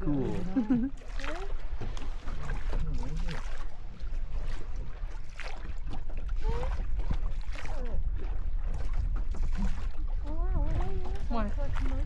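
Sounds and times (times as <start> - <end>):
boat engine rumble: 0.0 - 12.0
water noise: 0.0 - 12.0.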